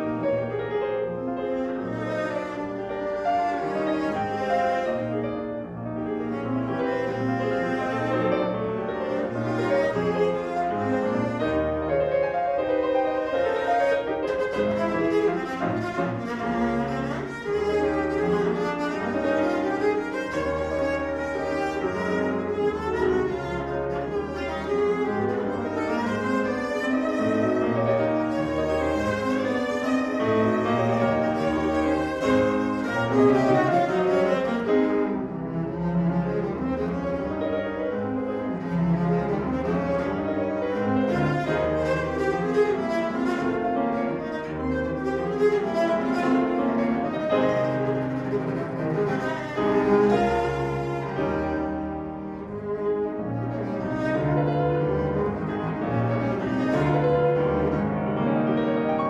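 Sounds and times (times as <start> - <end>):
bowed cello: 0.0 - 59.0
grand piano: 0.0 - 59.0.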